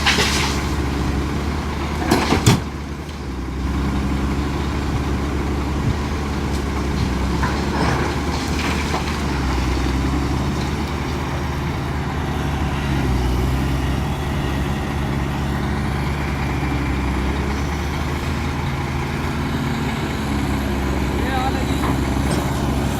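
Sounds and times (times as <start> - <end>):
diesel engines under load: 0.0 - 22.9.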